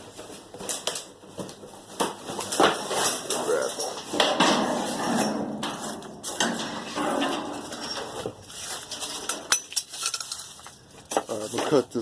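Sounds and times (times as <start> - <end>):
objects rustling and scraping: 0.0 - 12.0.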